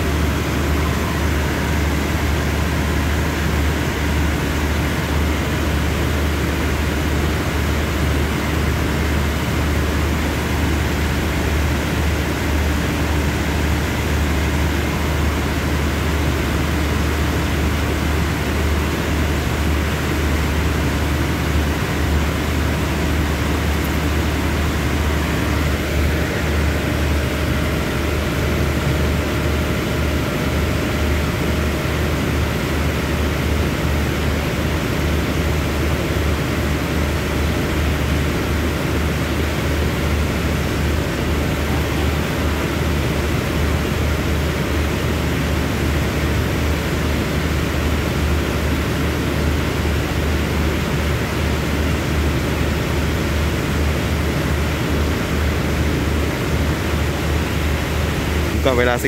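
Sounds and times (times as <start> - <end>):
air conditioning hiss: 0.0 - 59.0
idling train low rumble: 0.0 - 59.0.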